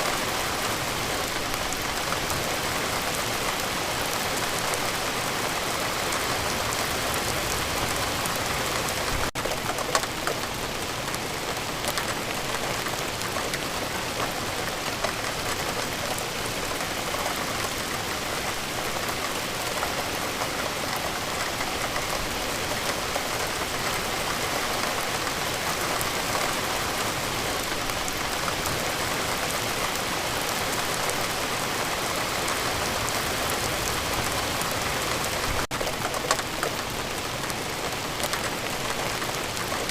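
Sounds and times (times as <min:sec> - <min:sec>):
rain falling: 0:00.0 - 0:39.9
raindrops pattering on a surface: 0:00.0 - 0:39.9.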